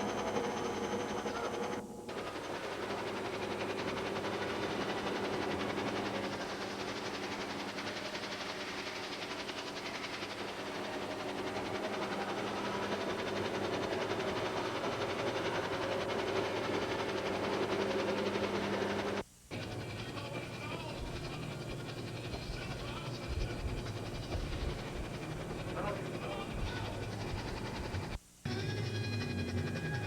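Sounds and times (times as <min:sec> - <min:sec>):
machine running with rattle: 0:00.0 - 0:30.0.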